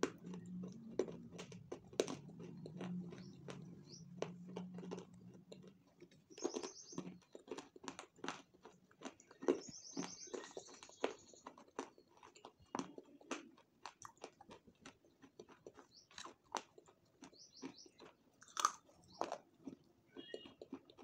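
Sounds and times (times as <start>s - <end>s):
person chewing and biting: 0.0s - 21.0s.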